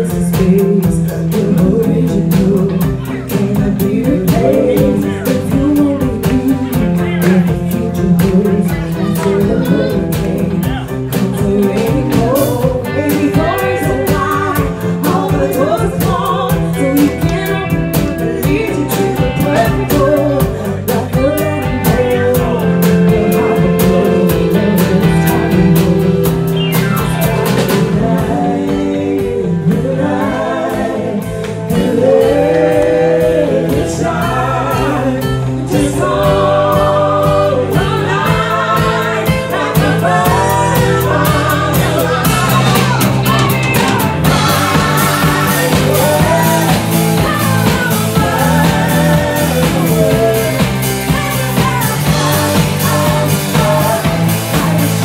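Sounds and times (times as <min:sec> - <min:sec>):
woman singing into a microphone: 0:00.0 - 0:26.6, 0:27.5 - 0:55.0
drum kit beat: 0:00.0 - 0:55.0
electric guitar: 0:00.0 - 0:55.0.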